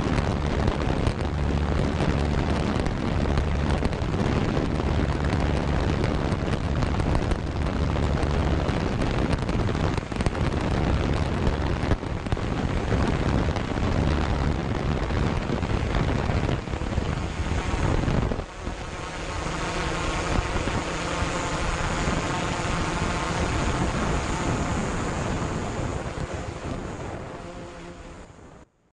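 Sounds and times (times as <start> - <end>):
drone propellers humming: 0.0 - 28.7
wind noise on microphone: 0.0 - 28.8.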